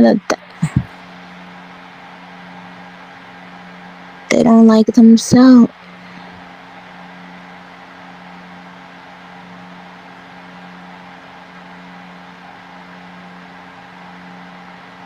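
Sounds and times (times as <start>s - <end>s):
faint broadband hiss: 0.0s - 15.0s
low drone hum: 0.0s - 15.0s.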